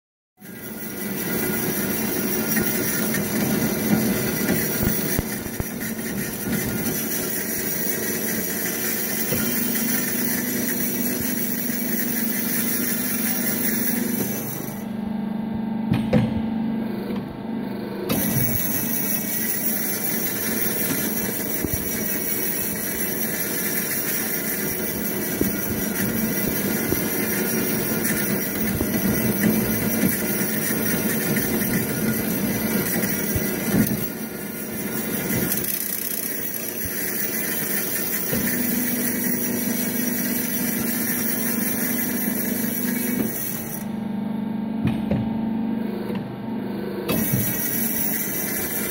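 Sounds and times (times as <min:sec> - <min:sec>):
band saw mechanical hum: 0:00.4 - 0:48.9.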